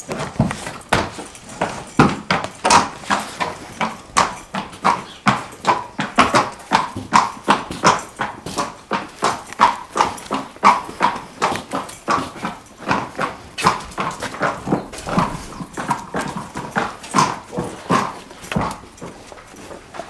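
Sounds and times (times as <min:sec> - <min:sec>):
horse hooves striking ground: 0:00.0 - 0:20.0.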